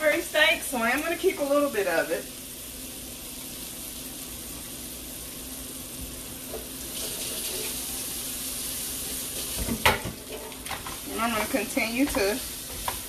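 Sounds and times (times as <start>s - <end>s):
butter sizzling in a skillet: 0.0s - 13.0s.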